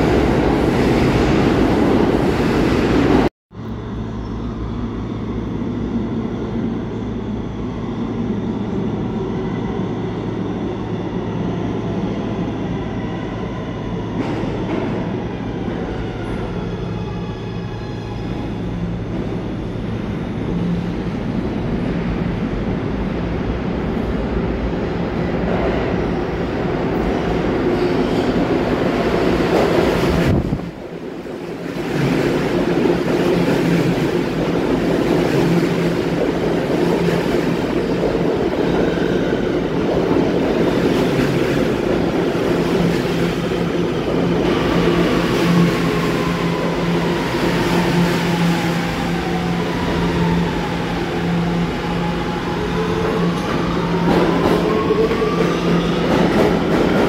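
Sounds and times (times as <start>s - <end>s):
subway train running: 0.0s - 57.0s.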